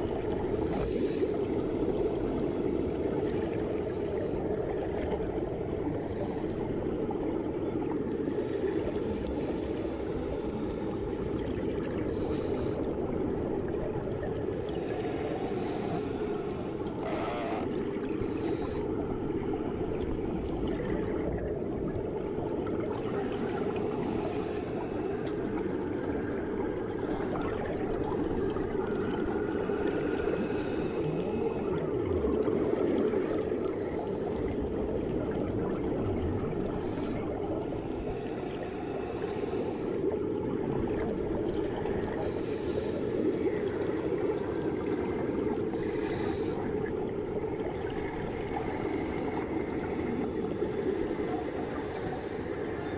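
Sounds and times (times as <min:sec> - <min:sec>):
muffled underwater rushing: 0:00.0 - 0:52.9.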